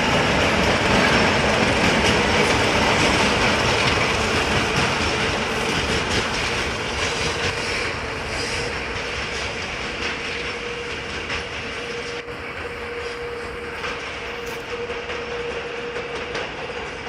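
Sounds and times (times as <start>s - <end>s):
diesel locomotive engine droning: 0.0s - 17.0s
wheels clicking over rail joints: 0.0s - 17.0s.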